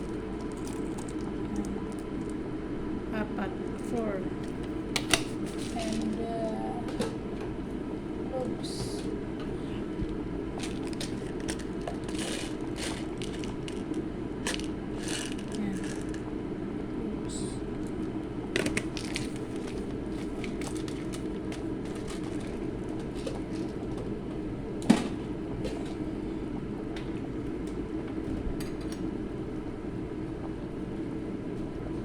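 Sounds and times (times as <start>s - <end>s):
pot boiling with low rumble: 0.0s - 32.0s.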